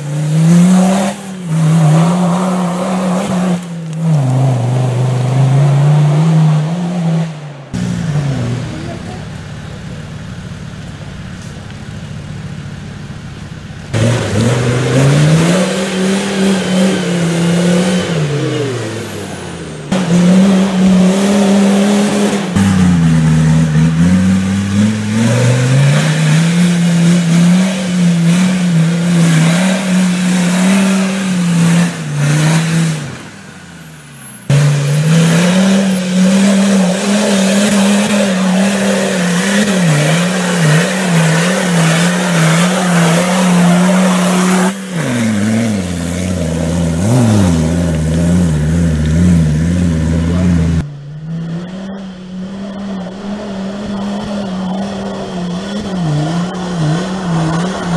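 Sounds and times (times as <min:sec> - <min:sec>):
diesel engine revving hard: 0:00.0 - 0:57.9.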